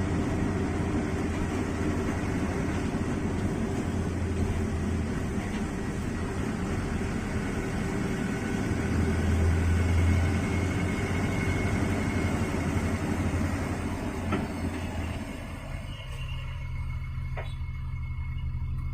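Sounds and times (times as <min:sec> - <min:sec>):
vehicle engine hum: 0:00.0 - 0:18.9.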